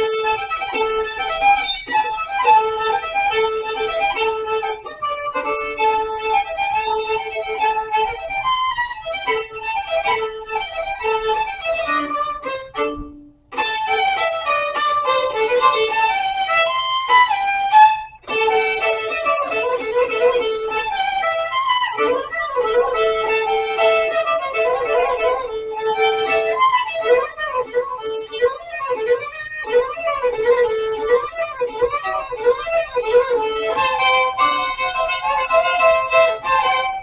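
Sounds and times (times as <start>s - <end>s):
violin playing fast melody: 0.0s - 37.0s.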